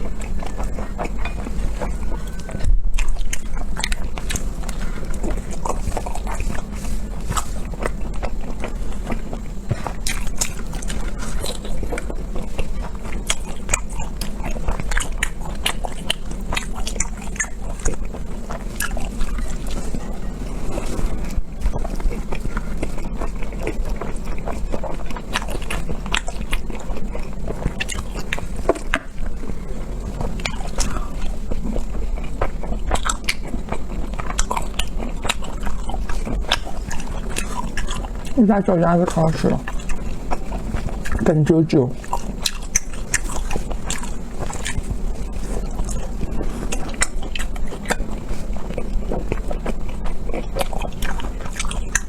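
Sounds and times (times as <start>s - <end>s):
biting and chewing: 0.0s - 52.0s.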